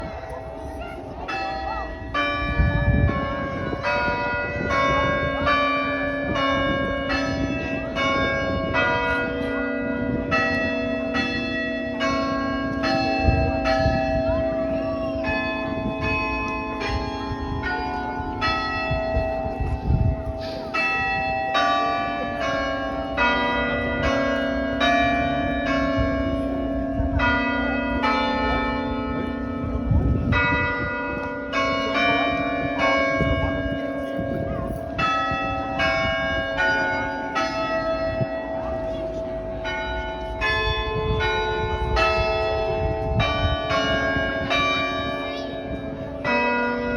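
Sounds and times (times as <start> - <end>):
church bells ringing a hymn melody: 0.0 - 46.9.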